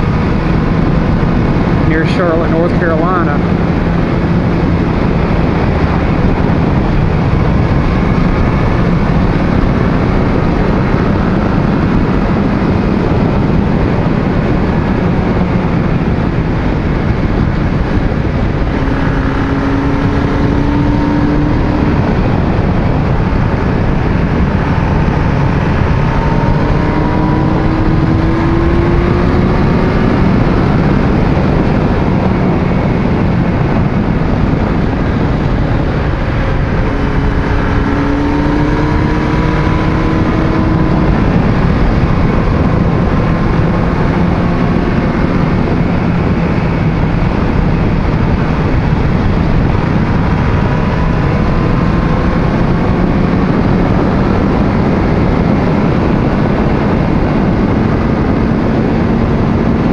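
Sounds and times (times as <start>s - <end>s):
motorcycle engine accelerating: 0.0s - 59.9s
wind roar on microphone: 0.0s - 59.9s.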